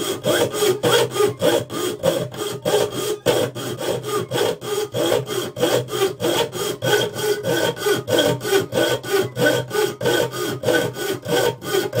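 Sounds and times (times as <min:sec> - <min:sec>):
saw rasping through steel: 0:00.0 - 0:12.0.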